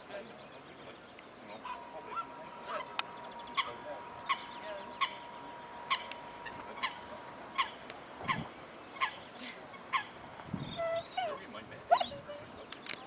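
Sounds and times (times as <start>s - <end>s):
bird calling: 0.0s - 13.0s
steady thin whine: 0.6s - 13.0s.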